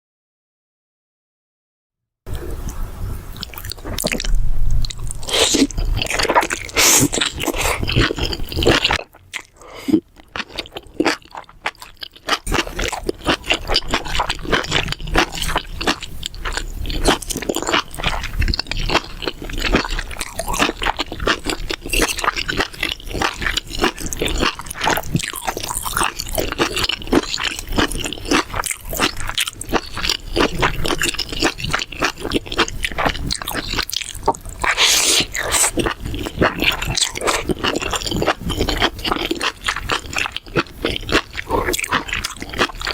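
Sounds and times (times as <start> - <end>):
chewing and crunching food: 2.3 - 42.9
wet squishy mouth sounds: 2.3 - 42.9.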